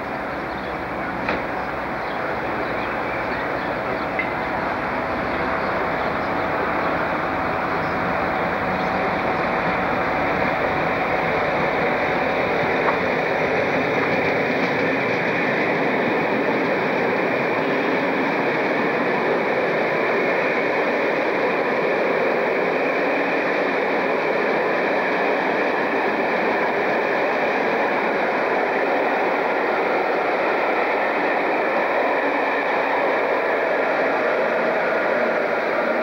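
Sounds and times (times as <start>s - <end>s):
electric train steady noise: 0.0s - 36.0s.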